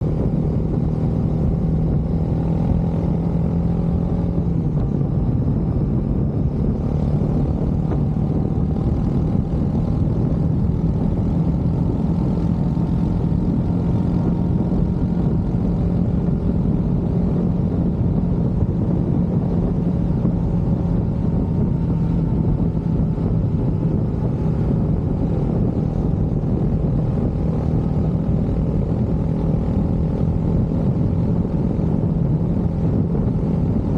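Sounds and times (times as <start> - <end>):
motorcycle engine cruising: 0.0 - 33.9.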